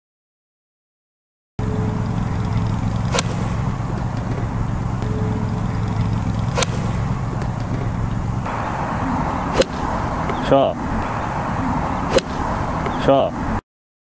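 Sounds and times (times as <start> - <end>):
golf club striking ball: 1.6 - 13.0
low rumble: 1.6 - 13.0.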